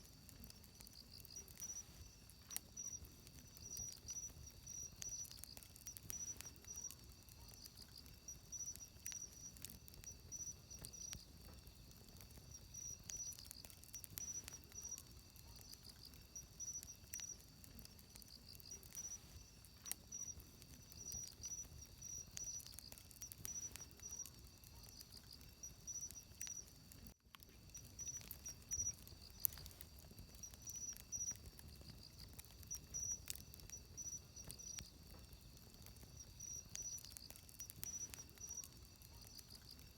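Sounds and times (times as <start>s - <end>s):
insects chirping: 0.0s - 39.9s
wood fire crackling and popping: 0.0s - 39.9s.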